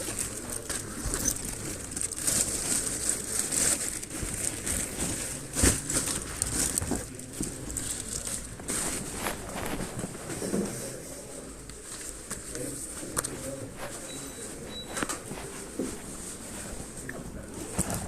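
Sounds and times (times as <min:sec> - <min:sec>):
rustling and crinkling: 0:00.0 - 0:18.0.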